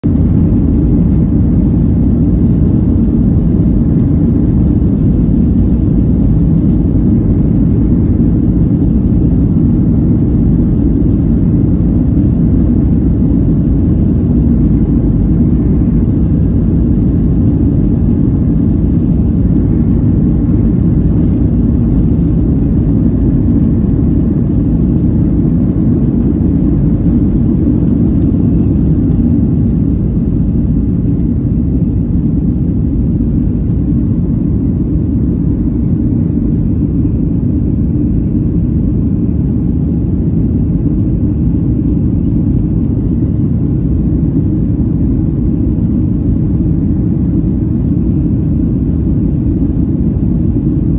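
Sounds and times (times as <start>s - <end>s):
airplane cabin low rumble: 0.0s - 50.9s.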